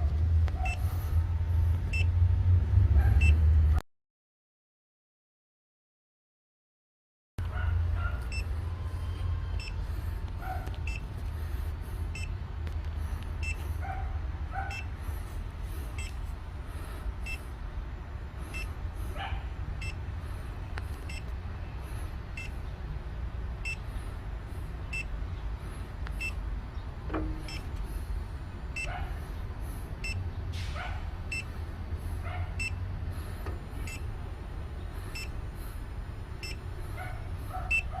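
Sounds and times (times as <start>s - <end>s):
steady low hum: 7.4s - 38.0s.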